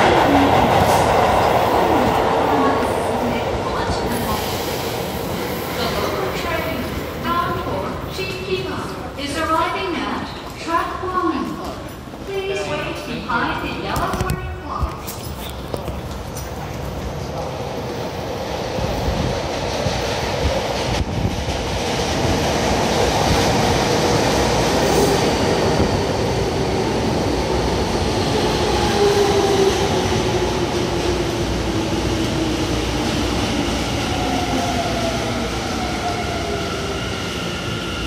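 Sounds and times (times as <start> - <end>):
train wheel and track rumble: 0.0 - 38.0.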